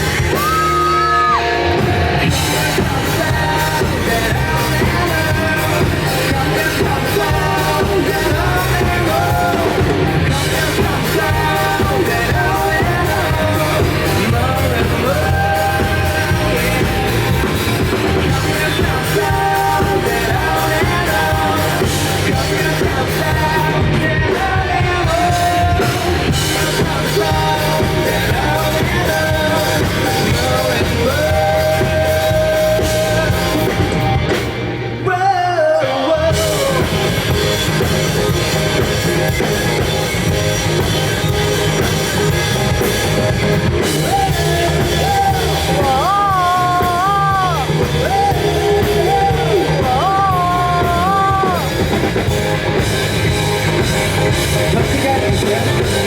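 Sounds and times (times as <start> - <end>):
lead vocals singing: 0.0 - 56.0
live rock band playing: 0.0 - 56.0.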